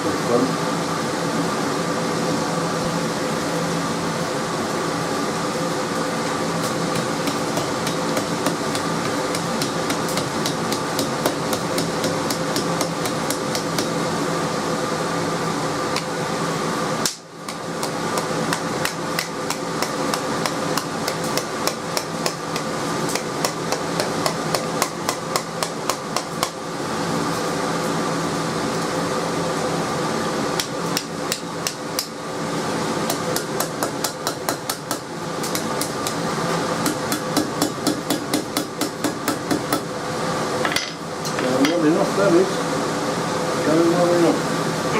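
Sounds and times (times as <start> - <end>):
steady mechanical hum: 0.0 - 44.9.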